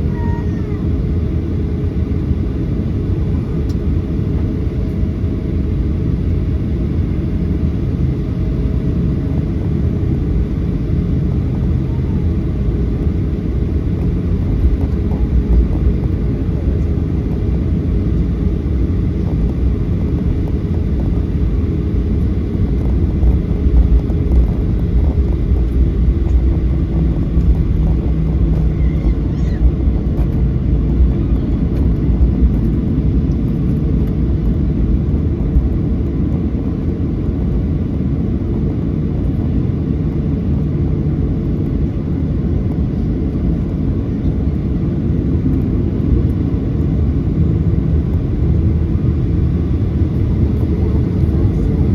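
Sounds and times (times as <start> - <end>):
airplane cabin rumble: 0.0 - 51.9.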